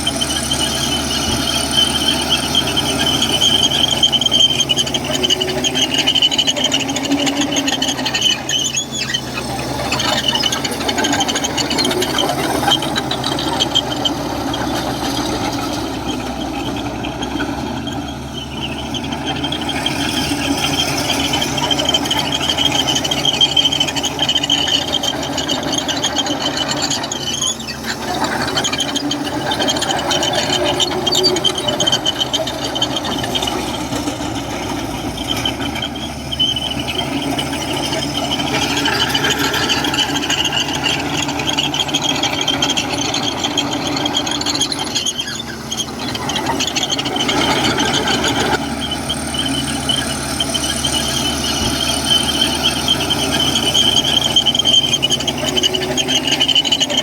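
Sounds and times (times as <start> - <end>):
diesel engine running: 0.0 - 57.0
steel tracks squealing: 0.0 - 57.0.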